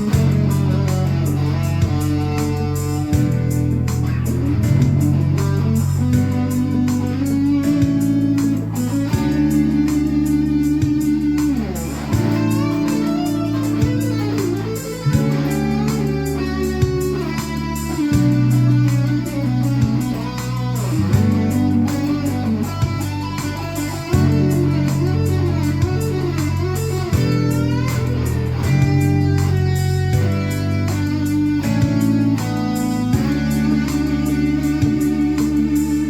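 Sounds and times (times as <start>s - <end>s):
electric guitar playing: 0.0s - 36.0s
low bass line: 0.0s - 36.0s.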